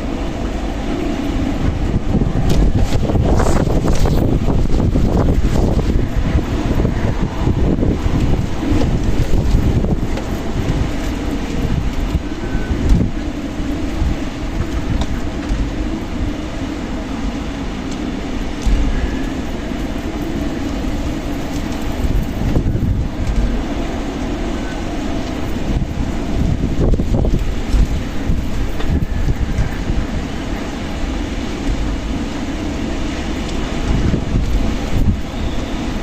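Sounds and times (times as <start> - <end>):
strong wind gusting: 0.0 - 36.0
wind buffeting microphone: 0.0 - 36.0.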